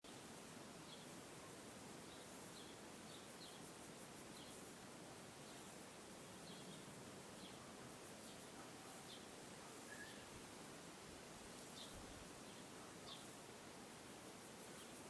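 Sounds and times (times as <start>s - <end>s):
steady outdoor hiss: 0.0s - 15.0s
songbird chirps: 0.1s - 15.0s.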